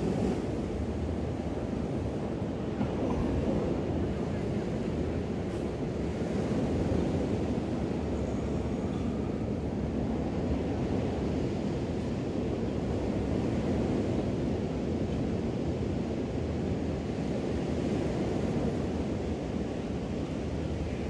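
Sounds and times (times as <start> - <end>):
ocean waves washing onto beach: 0.0 - 8.2, 9.0 - 21.0.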